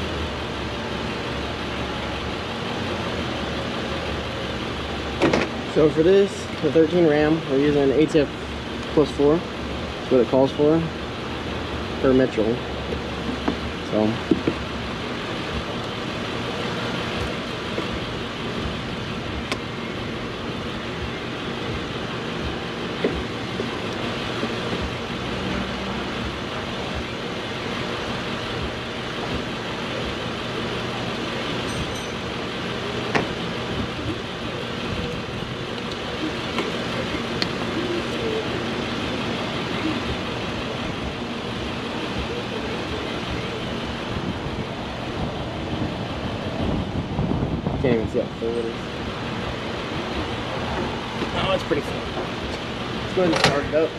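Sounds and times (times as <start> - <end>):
road traffic rumble: 0.0 - 53.9.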